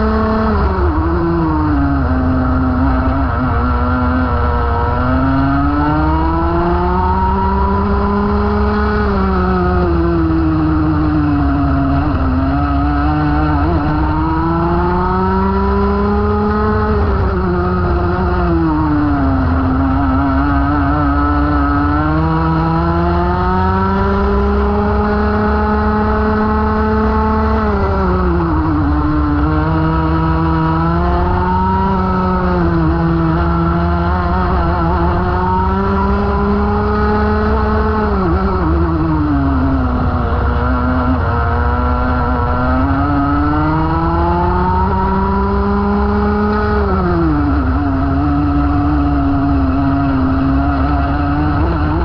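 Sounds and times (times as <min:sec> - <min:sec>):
kart engine revving: 0:00.0 - 0:52.0.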